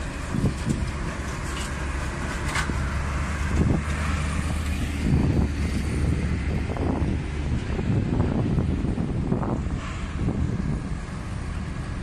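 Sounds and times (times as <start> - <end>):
heavy trucks driving past: 0.0 - 12.0.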